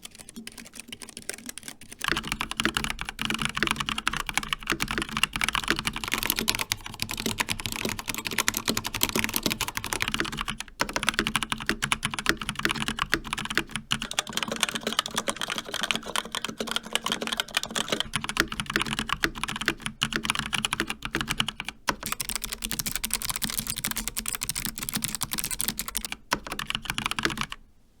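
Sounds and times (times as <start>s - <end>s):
fast mechanical keyboard typing: 0.0s - 27.6s.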